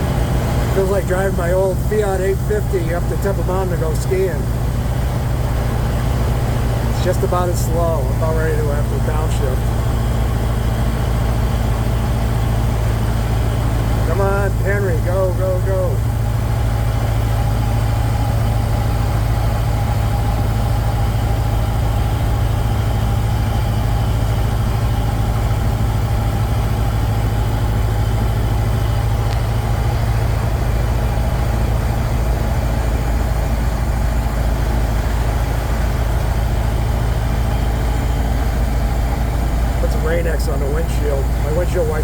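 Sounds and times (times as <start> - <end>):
car engine running under load: 0.0 - 42.0.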